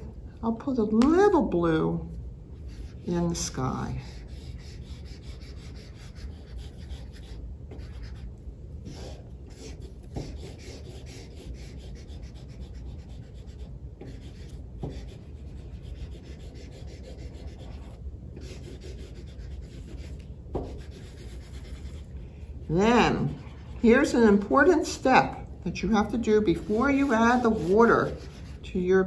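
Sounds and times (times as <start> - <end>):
marker rubbing on paper: 2.6 - 24.1, 26.2 - 28.7.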